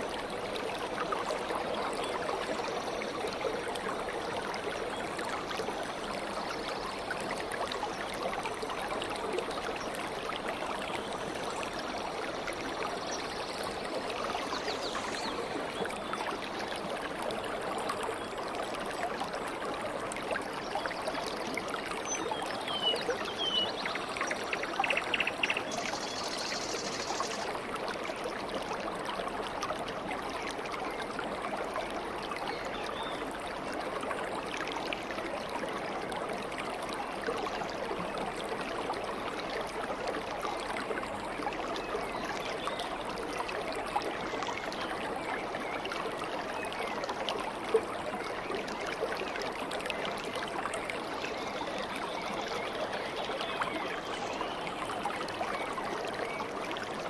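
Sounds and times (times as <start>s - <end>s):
stream of running water gurgling: 0.0s - 57.0s.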